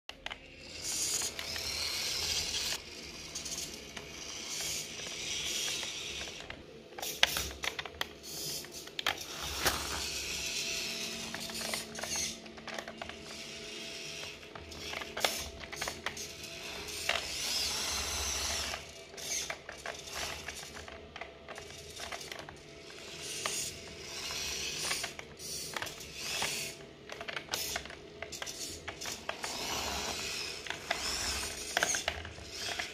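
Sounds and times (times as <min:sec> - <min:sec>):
electric motors and gears whirring: 0:00.1 - 0:32.9.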